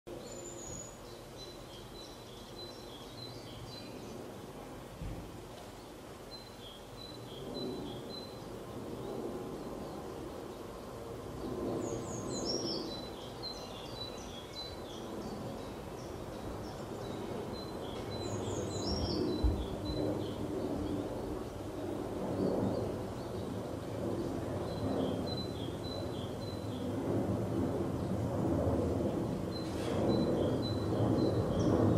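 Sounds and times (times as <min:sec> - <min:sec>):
small birds chirping: 0:00.1 - 0:28.3, 0:29.0 - 0:31.9.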